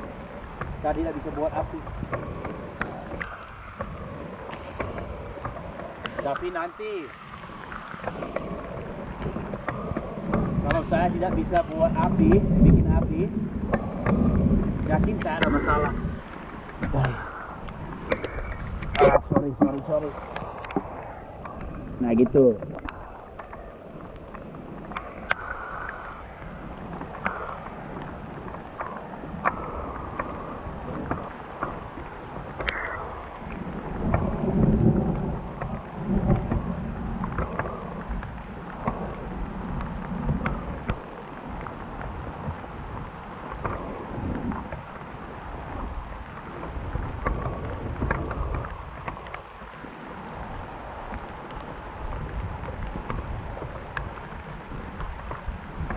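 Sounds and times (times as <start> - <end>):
steady rain falling: 0.0 - 55.9
low rumble of thunder: 4.0 - 23.2, 23.8 - 55.9.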